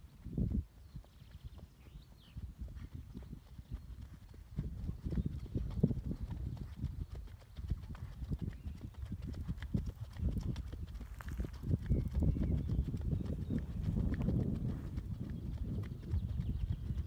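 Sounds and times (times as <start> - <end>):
horse hooves on dirt: 0.1 - 17.0.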